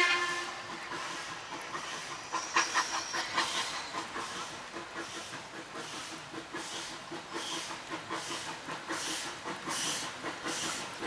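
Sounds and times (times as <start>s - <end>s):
steam hissing: 0.0s - 11.0s
train running gear clicking and knocking: 0.0s - 11.0s.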